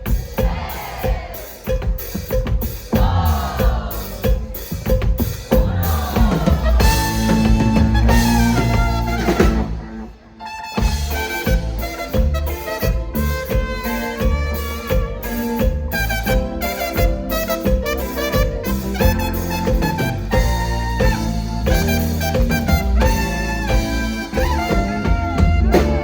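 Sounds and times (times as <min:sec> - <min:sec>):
drum kit beat: 0:00.0 - 0:26.0
live pop band playing: 0:00.0 - 0:26.0.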